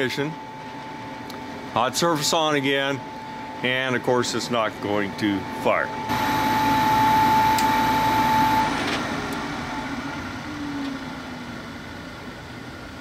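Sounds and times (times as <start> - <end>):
furnace inducer motor whining: 0.0 - 13.0.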